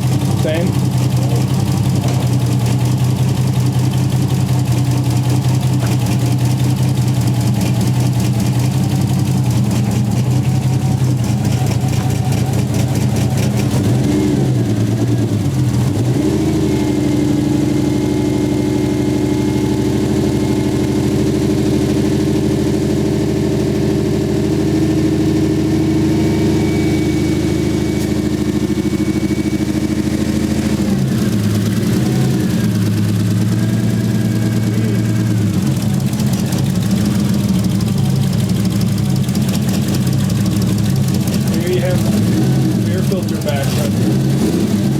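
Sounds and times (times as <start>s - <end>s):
car engine misfiring: 0.0s - 17.4s, 23.7s - 44.9s.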